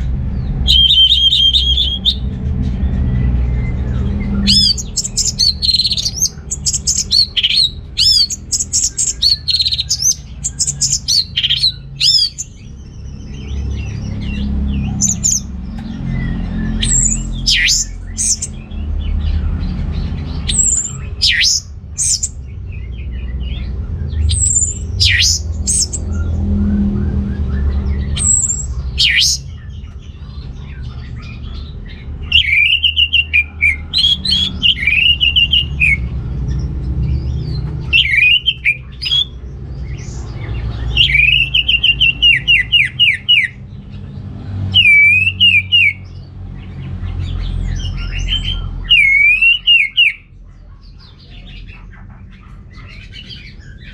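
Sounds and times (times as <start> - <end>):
thrush singing: 0.0 - 22.4, 23.3 - 36.3, 37.8 - 43.7, 47.8 - 50.2
steady low rumble: 0.0 - 44.8.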